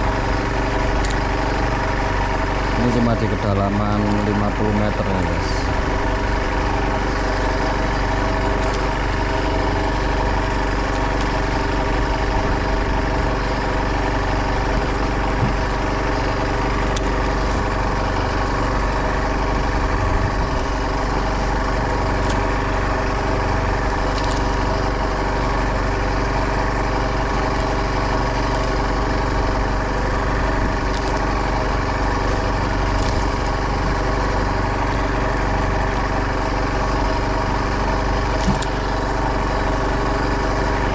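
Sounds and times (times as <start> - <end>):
boat engine running steadily: 0.0 - 40.9.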